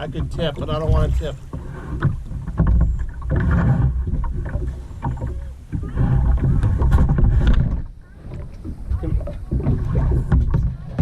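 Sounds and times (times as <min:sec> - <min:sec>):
low rumble on microphone: 0:00.0 - 0:11.0
paddle knocks and splashes: 0:00.0 - 0:11.0.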